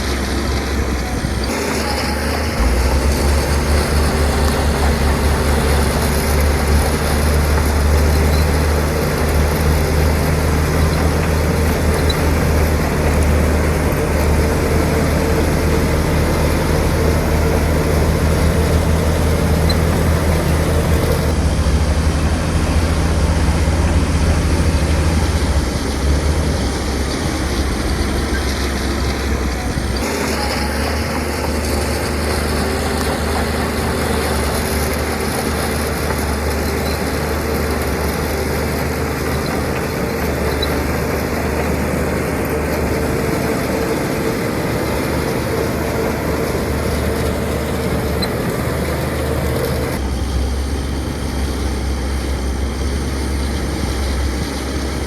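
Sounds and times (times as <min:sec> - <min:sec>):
diesel machinery engine rumble: 0:00.0 - 0:55.0.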